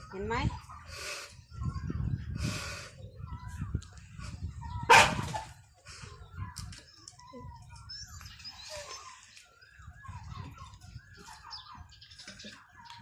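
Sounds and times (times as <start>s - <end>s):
chickens chirping: 0.4s - 13.0s.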